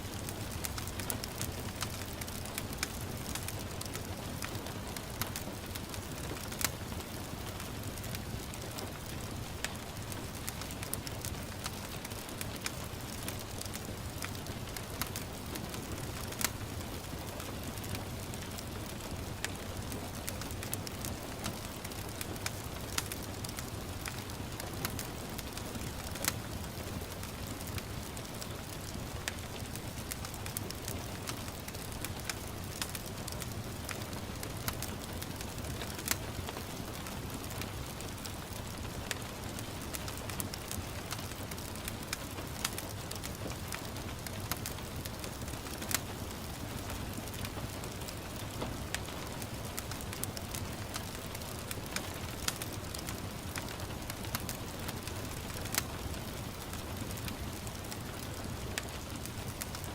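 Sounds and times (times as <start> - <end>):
gentle rain hiss: 0.0 - 59.9
wood fire crackling and popping: 0.0 - 59.9.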